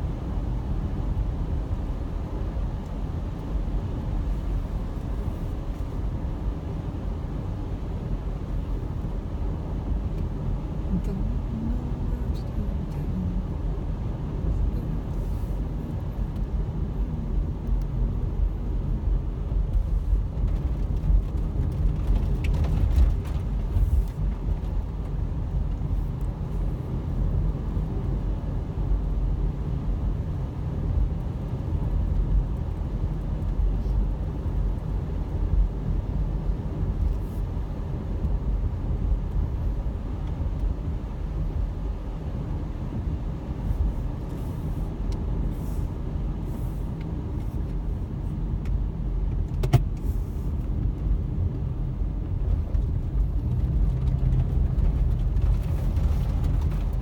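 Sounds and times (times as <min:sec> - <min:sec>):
car driving on wet road: 0:00.0 - 0:57.0.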